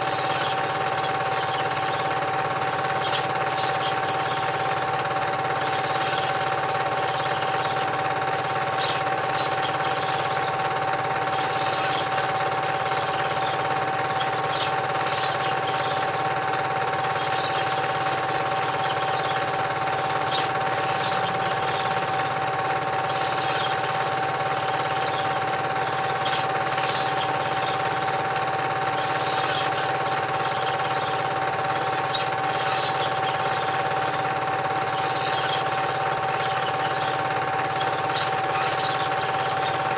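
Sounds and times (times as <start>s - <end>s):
film projector whirring and rattling: 0.0s - 39.9s.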